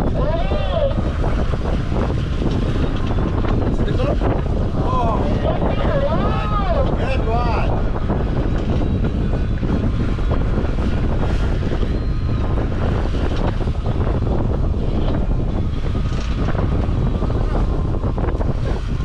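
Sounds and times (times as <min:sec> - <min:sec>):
boat and water noise: 0:00.0 - 0:19.0
wind rumble on microphone: 0:00.0 - 0:19.0.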